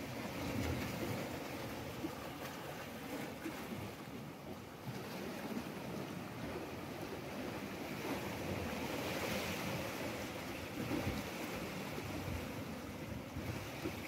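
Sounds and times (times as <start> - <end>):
sea waves washing against rocks: 0.0 - 14.0.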